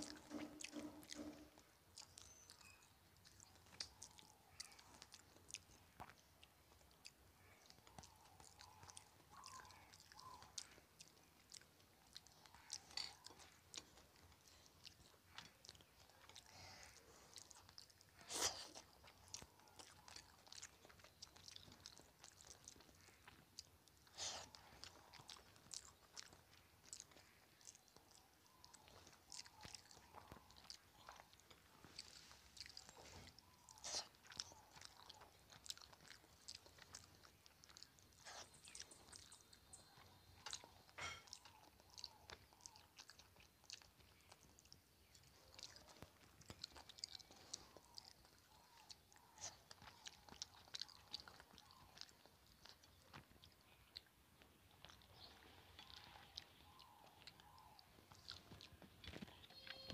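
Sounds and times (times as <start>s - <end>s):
person chewing rice: 0.0s - 59.9s.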